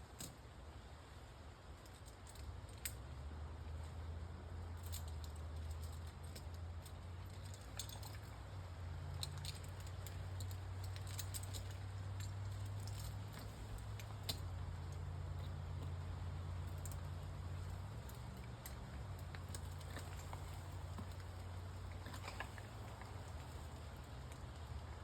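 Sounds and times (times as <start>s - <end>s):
metallic clinks and rattling: 4.6s - 24.7s.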